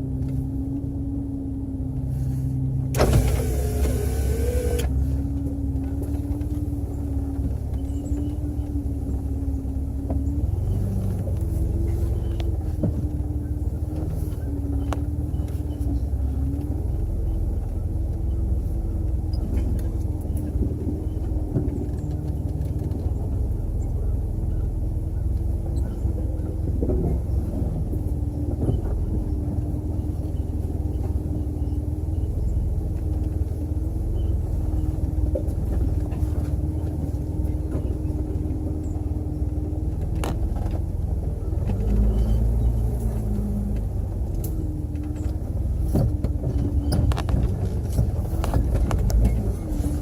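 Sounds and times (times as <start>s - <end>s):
vehicle engine low rumble: 0.0s - 50.0s.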